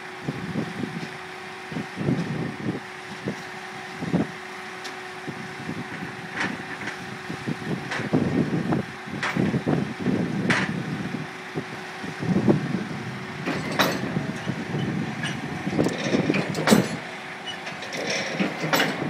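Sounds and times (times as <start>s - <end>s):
rig engine drone: 0.0s - 19.0s.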